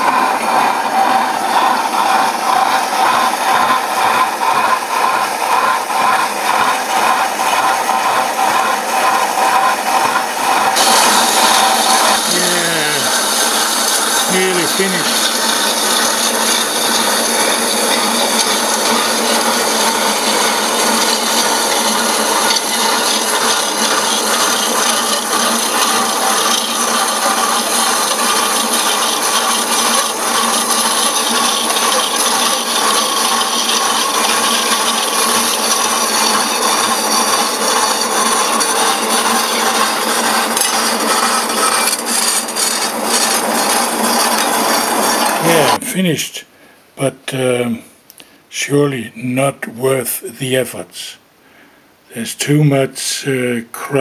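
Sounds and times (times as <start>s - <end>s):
power saw cutting metal: 0.0s - 45.8s.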